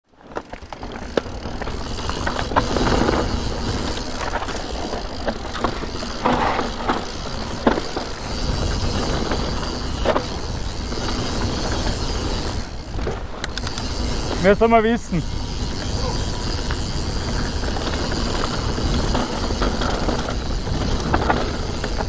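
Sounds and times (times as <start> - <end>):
bike tyres rolling on dirt: 0.1 - 22.0
bike clacking over bumps: 0.2 - 22.0.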